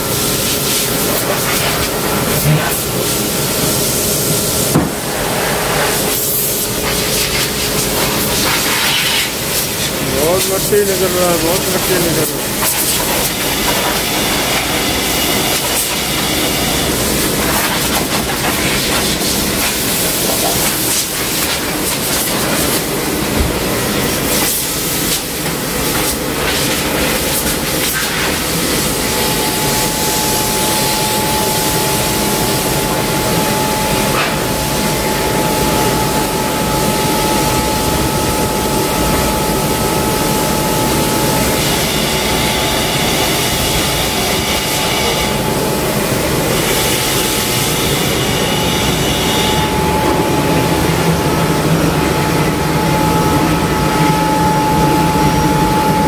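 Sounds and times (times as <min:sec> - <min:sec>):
steady high whine: 0:00.0 - 0:56.0.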